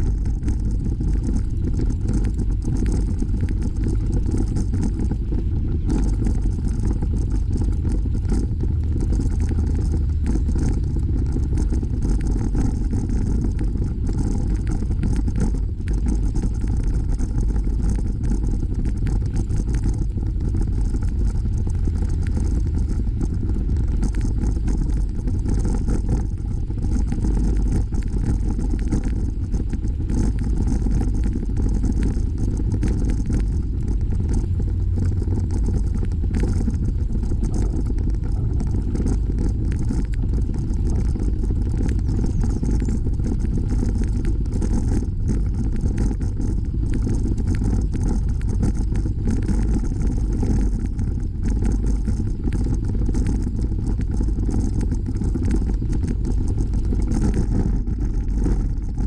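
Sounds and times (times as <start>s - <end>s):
bicycle rattles and knocks: 0.0s - 59.0s
bicycle tyre noise: 0.0s - 59.0s
wind rumble: 0.0s - 59.0s.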